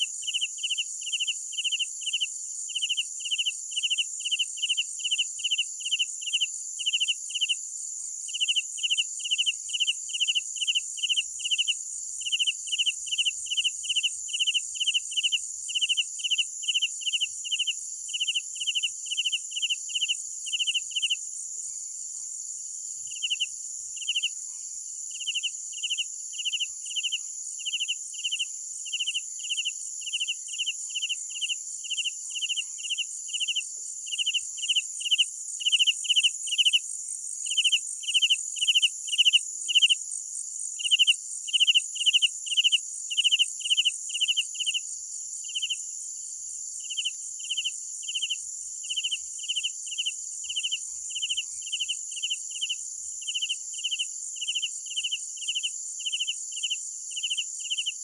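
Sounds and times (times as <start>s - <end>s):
cricket chirping: 0.0s - 58.0s
high-pitched insect trill: 0.0s - 58.0s.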